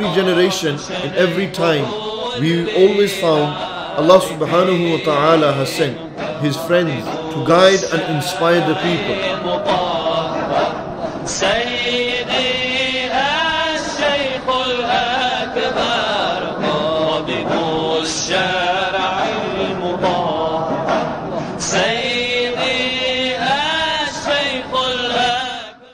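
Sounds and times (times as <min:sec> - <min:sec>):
person chanting melismatic melody: 0:00.0 - 0:25.7.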